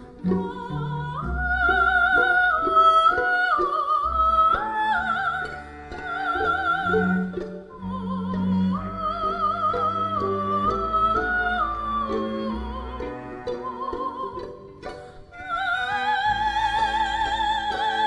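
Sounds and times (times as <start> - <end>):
soprano woman singing: 0.0 - 18.0.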